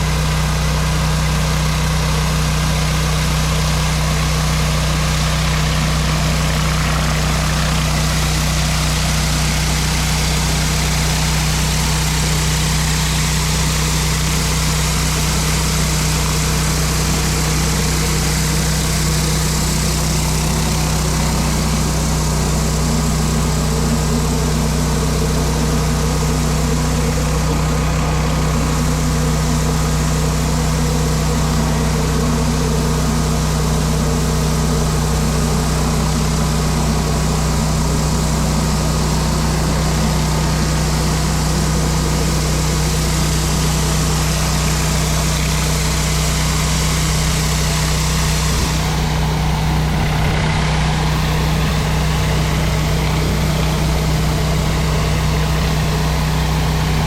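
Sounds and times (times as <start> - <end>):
pressure washer engine running: 0.0 - 57.0
water spraying onto concrete: 1.4 - 32.2, 33.5 - 57.0.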